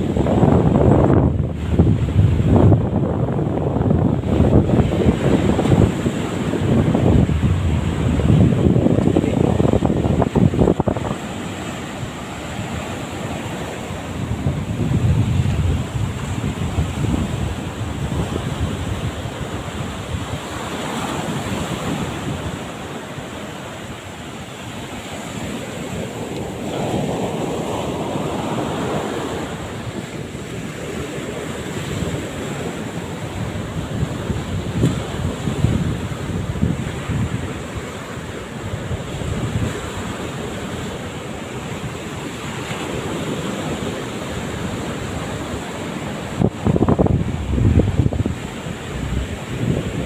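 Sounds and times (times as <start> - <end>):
surf breaking on beach: 0.0 - 50.0
wind buffeting microphone: 0.0 - 50.0.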